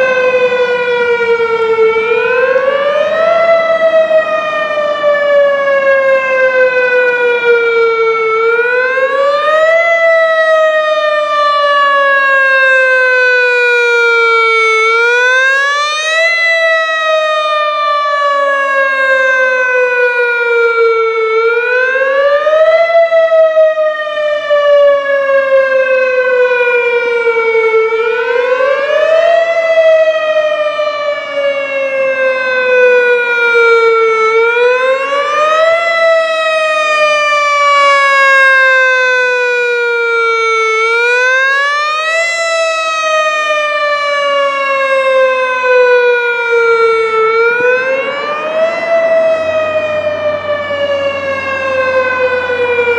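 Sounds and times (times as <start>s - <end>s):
warning siren wailing: 0.0s - 52.9s.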